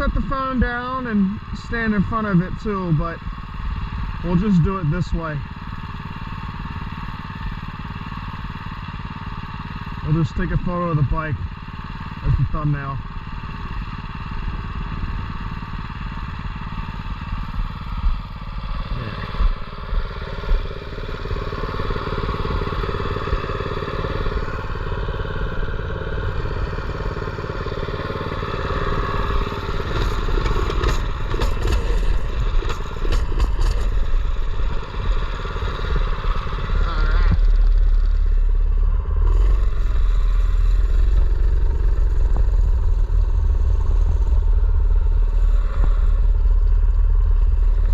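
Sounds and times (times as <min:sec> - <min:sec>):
small engine idling: 0:00.0 - 0:47.9.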